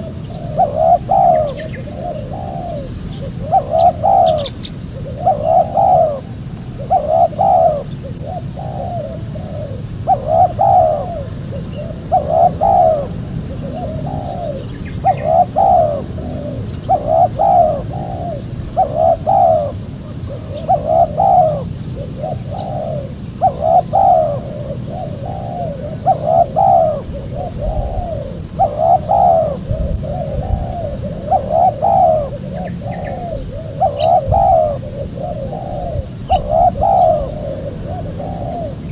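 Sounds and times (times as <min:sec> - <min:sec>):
dove cooing: 0:00.0 - 0:38.9
steady low rumble: 0:00.0 - 0:38.9.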